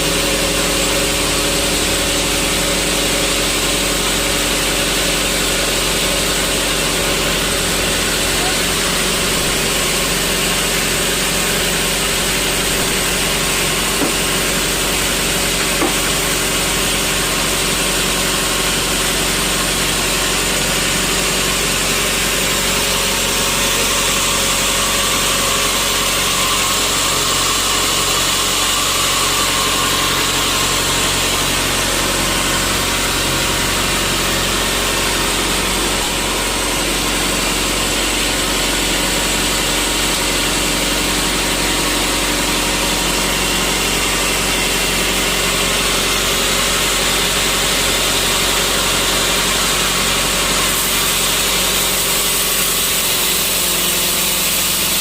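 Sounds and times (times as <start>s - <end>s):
sawmill machinery sawing wood: 0.0s - 55.0s.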